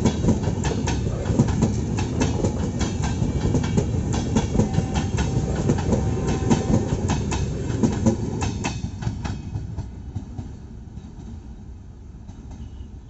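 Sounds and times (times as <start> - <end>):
train coaches clickety-clack: 0.0 - 13.0
train rumble: 0.0 - 13.0.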